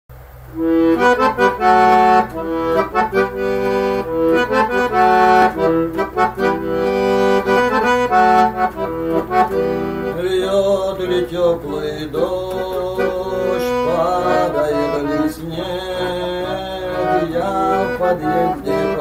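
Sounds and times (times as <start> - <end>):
accordion playing: 0.4 - 19.0.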